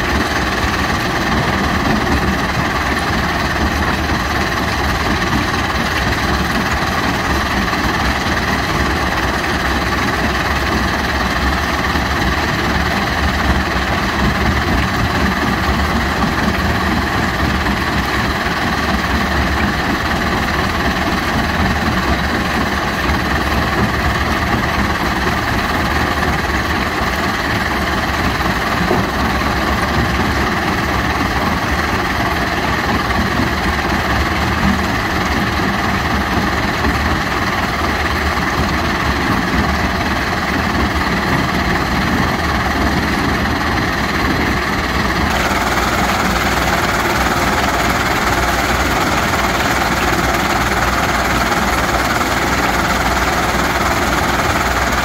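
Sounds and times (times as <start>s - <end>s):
diesel engines: 0.0s - 55.0s.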